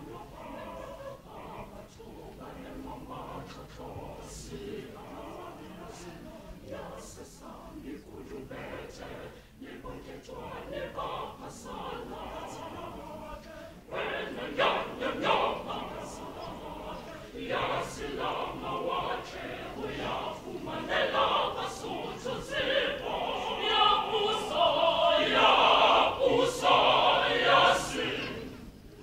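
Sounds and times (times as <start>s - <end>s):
mixed choir singing: 0.0s - 29.0s.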